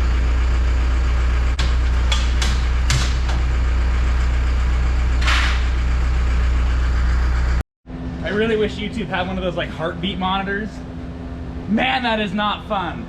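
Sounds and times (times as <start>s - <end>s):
engine idling: 0.0s - 11.7s.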